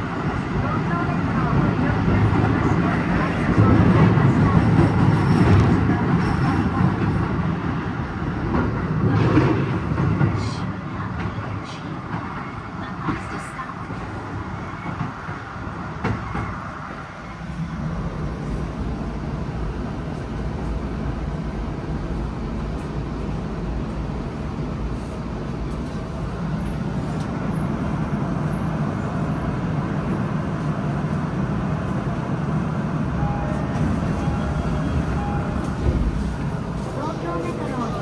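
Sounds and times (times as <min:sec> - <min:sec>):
subway train wheels rumbling on rail: 0:00.0 - 0:38.0.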